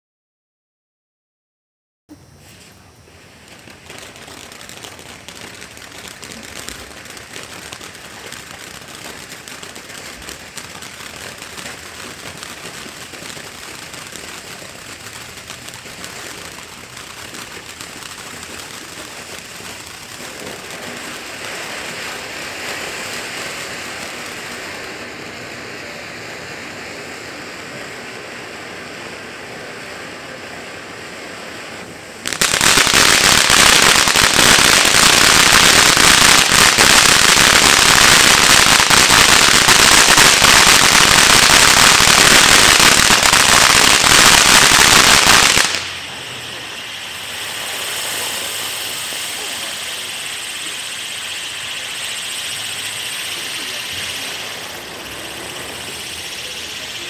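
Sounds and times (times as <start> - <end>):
firework fountain hissing and crackling: 2.1 - 57.0.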